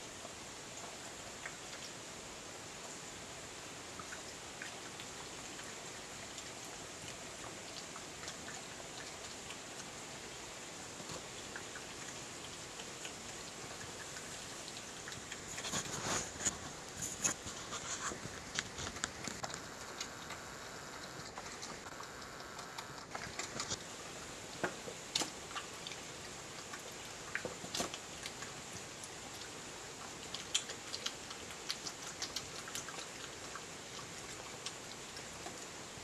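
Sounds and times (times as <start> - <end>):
steady hiss: 0.0 - 36.0
badger chewing and crunching: 0.2 - 36.0.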